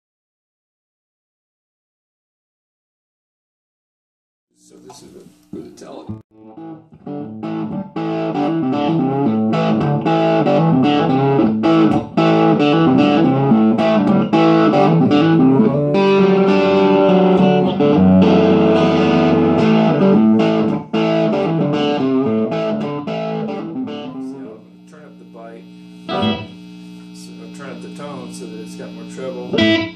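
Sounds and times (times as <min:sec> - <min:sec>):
electric guitar through amplifier: 0:04.9 - 0:29.9.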